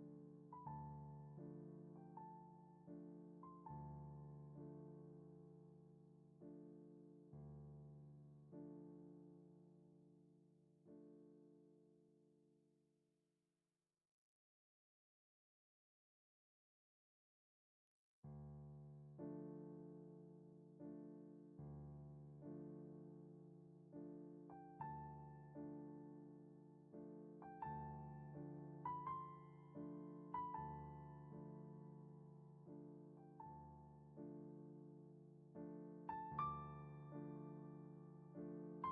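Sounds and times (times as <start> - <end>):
soft slow piano chords: 0.0 - 12.2, 18.3 - 38.9.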